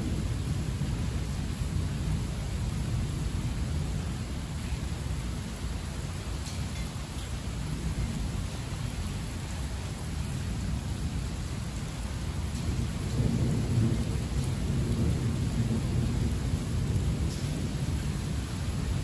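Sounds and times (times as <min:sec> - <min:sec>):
heavy rain falling: 0:00.0 - 0:19.0
low rumble of thunder: 0:00.0 - 0:19.0.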